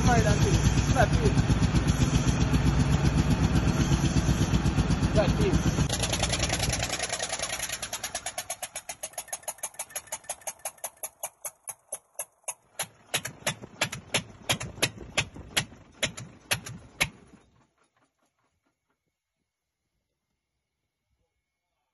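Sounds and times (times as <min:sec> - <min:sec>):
diesel engine sharp beats: 0:00.0 - 0:18.1.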